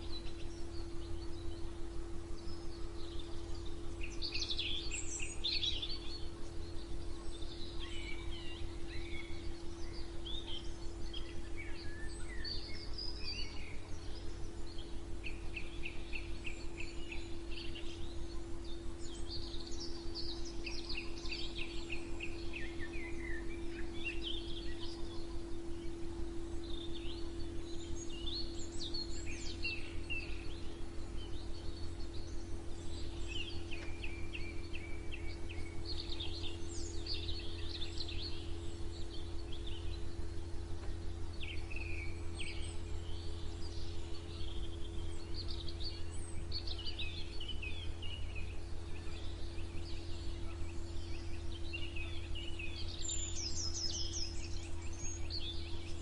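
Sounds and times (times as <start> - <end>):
low hum: 0.0 - 56.0
songbirds chirping and singing: 0.0 - 56.0.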